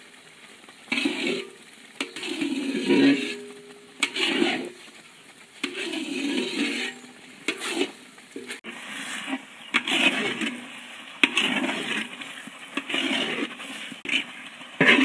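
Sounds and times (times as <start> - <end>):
ladle stirring paste in metal pan: 0.9 - 15.0.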